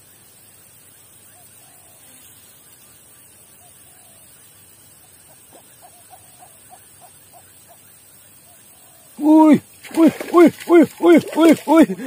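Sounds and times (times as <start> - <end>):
faint open-air hiss: 0.0 - 12.0.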